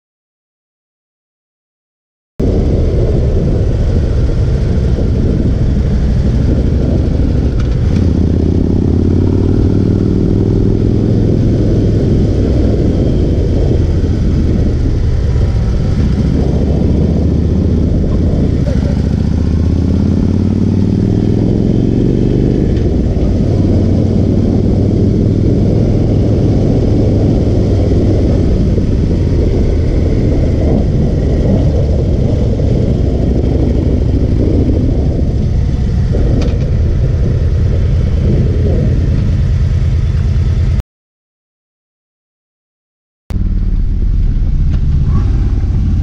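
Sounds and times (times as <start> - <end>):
motorcycle engine accelerating: 2.4 - 40.8, 43.3 - 46.0.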